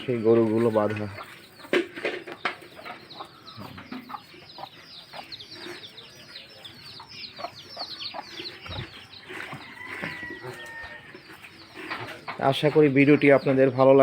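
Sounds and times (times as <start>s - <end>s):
birds chirping rapidly: 0.0s - 14.0s
chickens clucking: 0.0s - 14.0s.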